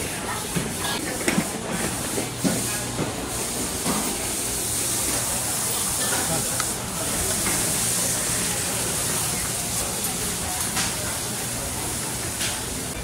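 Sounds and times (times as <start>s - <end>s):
faint voices: 0.0s - 13.0s
street ambience hiss: 0.0s - 13.0s.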